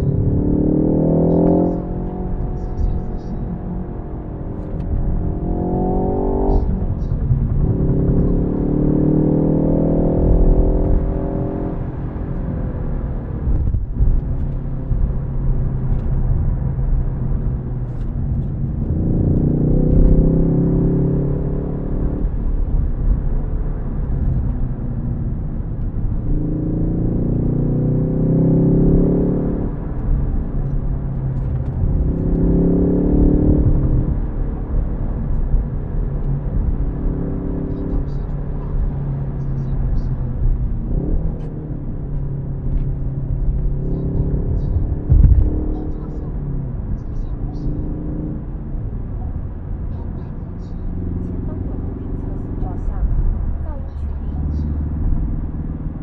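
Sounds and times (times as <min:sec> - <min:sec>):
car engine accelerating hard: 0:00.0 - 0:56.0
low road rumble: 0:00.0 - 0:56.0.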